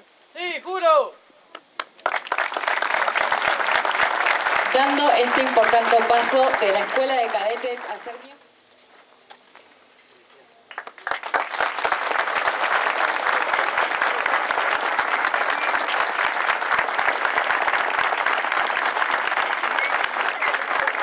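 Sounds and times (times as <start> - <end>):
large crowd applauding: 1.7 - 8.2, 10.6 - 21.0.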